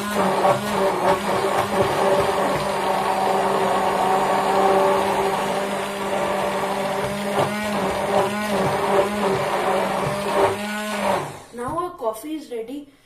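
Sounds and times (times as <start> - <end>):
hand blender motor running: 0.0 - 11.6.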